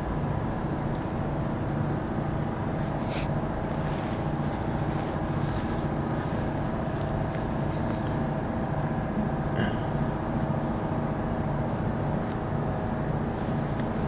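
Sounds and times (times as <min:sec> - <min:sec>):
engine drone: 0:00.0 - 0:14.0.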